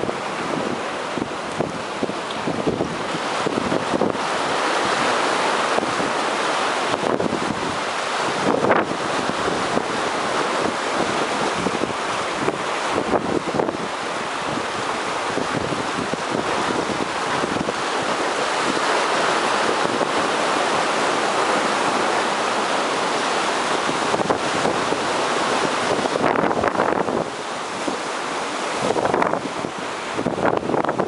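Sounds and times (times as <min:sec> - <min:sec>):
heavy surf breaking: 0:00.0 - 0:31.0
wind buffeting microphone: 0:00.0 - 0:31.0.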